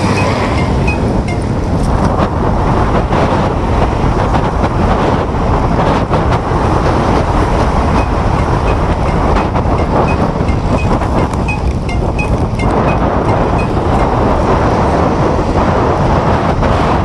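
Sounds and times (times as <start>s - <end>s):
road and tyre noise: 0.0s - 17.0s
wind on microphone: 0.0s - 17.0s.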